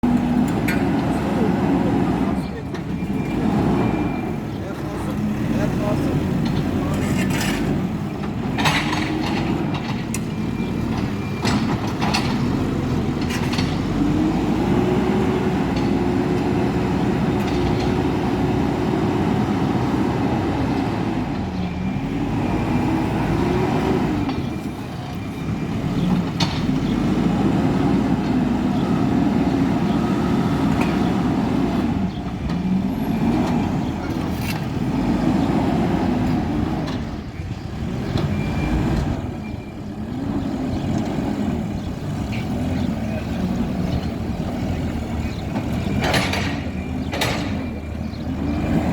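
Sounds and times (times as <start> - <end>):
diesel engine revving under load: 0.0 - 48.9.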